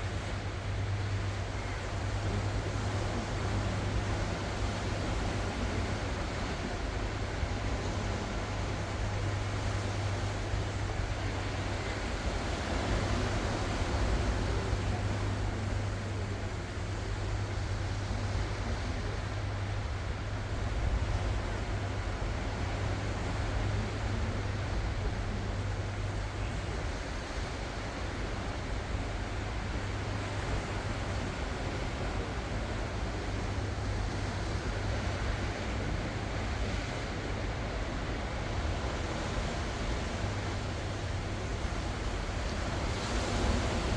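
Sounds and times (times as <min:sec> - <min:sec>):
ocean waves washing ashore: 0:00.0 - 0:43.9.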